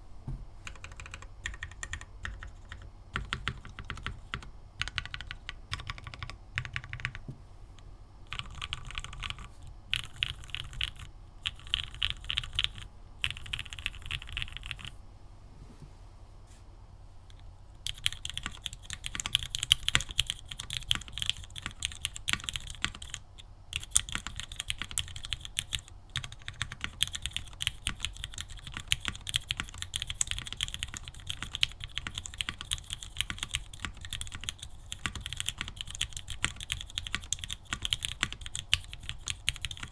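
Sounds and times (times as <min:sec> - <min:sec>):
mechanical keyboard typing: 0:00.6 - 0:07.2, 0:08.3 - 0:14.9, 0:17.8 - 0:39.9.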